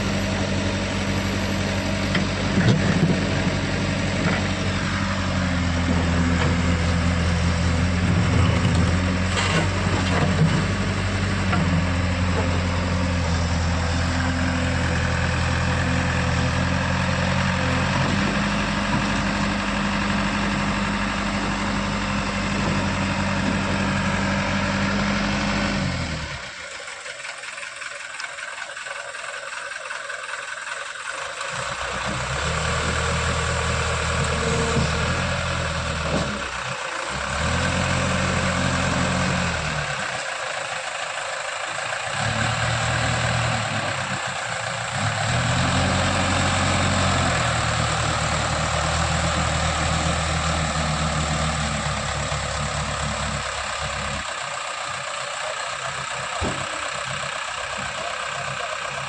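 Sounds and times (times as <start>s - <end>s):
backhoe diesel engine running: 0.0s - 59.0s.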